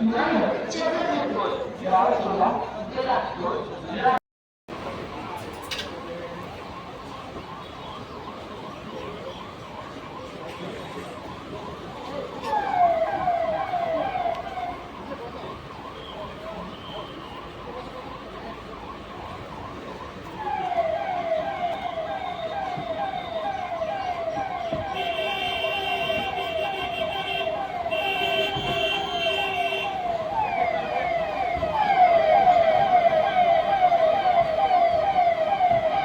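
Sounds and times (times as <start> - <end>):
siren yelping: 5.1 - 36.0.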